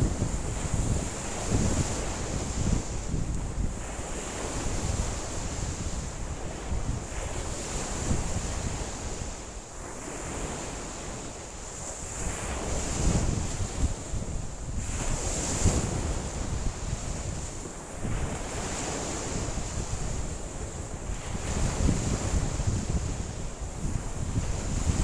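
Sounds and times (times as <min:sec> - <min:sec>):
waves washing onto shore: 0:00.0 - 0:25.0
wind gusting across microphone: 0:00.0 - 0:25.0.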